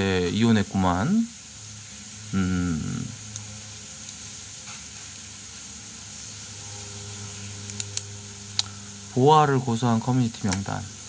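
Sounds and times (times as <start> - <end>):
microphone hiss with low hum: 0.0 - 11.0.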